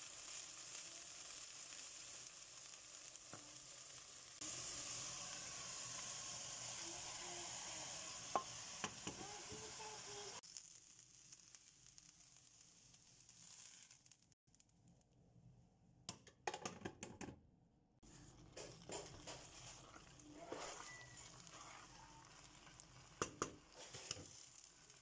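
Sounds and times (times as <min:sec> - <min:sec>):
okra sizzling in oil: 0:00.0 - 0:14.4, 0:18.0 - 0:25.0.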